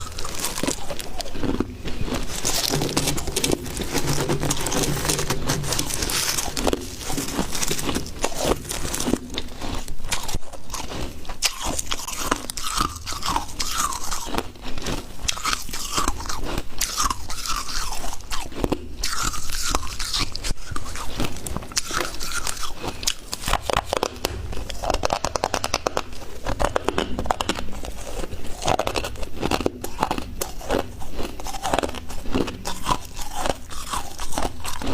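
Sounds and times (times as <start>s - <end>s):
crunching and chewing frost: 0.0s - 34.9s.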